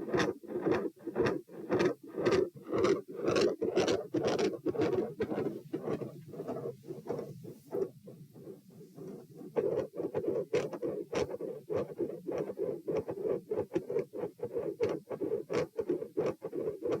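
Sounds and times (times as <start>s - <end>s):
heart murmur: 0.0s - 15.6s
heartbeat through stethoscope: 0.0s - 17.0s.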